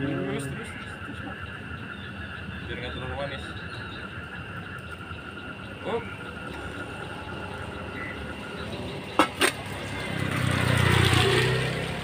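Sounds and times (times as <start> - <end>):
vehicle passing on street: 0.0 - 3.4, 4.1 - 12.0.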